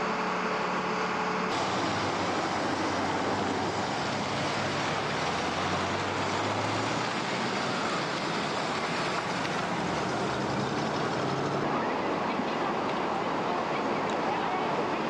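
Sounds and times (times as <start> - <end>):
low engine hum: 0.0 - 15.0
road traffic noise: 0.0 - 15.0.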